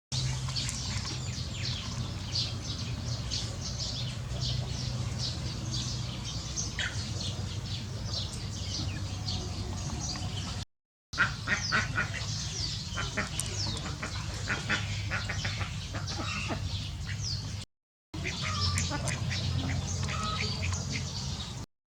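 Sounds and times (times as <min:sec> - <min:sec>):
many birds chirping: 0:00.2 - 0:10.6, 0:11.2 - 0:17.6, 0:18.2 - 0:21.7.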